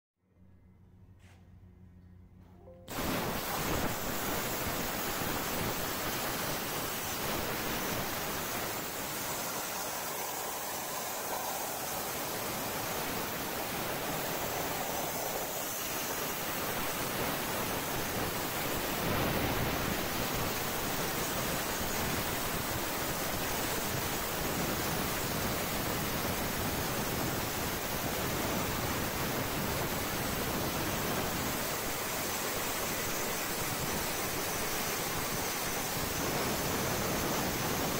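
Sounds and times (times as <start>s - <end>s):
plasma torch hissing: 2.9s - 37.9s.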